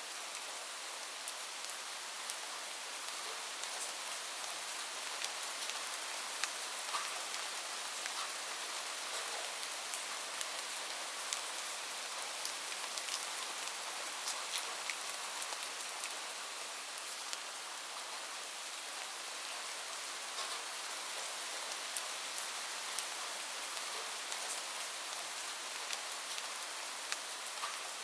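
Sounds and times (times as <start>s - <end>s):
light rain falling: 0.0s - 28.0s
raindrops ticking on a surface: 1.1s - 18.2s, 19.0s - 28.0s.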